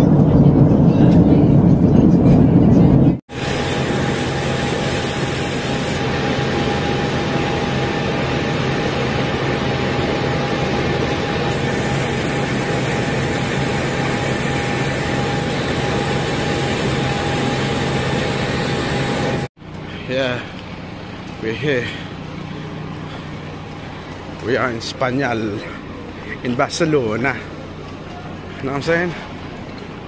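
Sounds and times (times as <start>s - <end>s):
jet aircraft engine whine: 0.0s - 28.6s.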